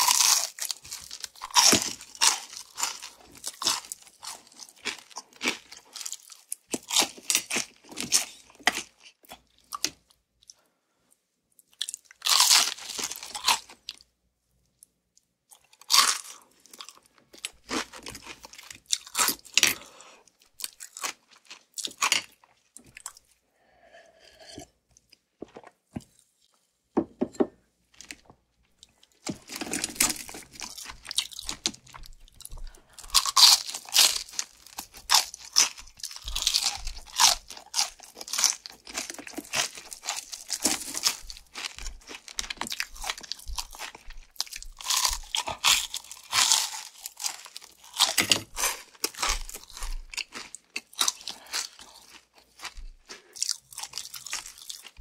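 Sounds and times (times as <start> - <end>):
crunchy chicken being chewed: 0.0 - 10.6, 11.6 - 14.1, 15.5 - 26.3, 28.0 - 55.0.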